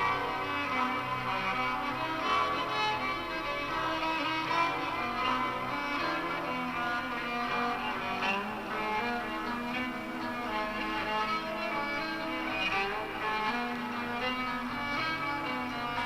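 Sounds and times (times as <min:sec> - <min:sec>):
violin melody over strings: 0:00.0 - 0:16.0.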